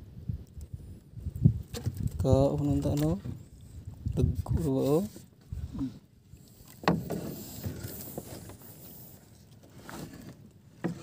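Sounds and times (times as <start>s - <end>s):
water splashing around canoe: 1.6s - 11.0s.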